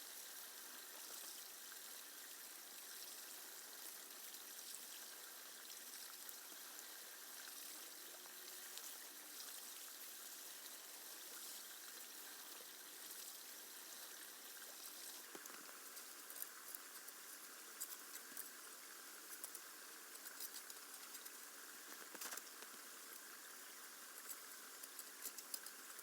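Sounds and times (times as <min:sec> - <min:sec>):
flowing water: 0:00.1 - 0:26.0.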